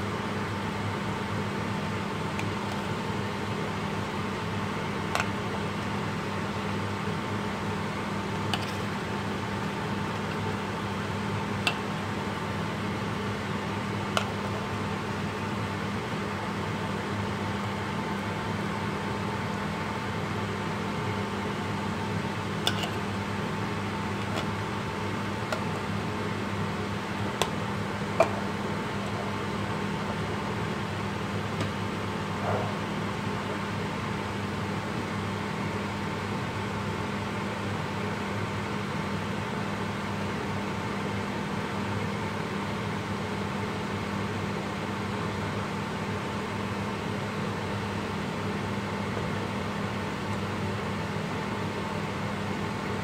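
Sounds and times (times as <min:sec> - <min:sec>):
electric fan humming: 0:00.0 - 0:53.0.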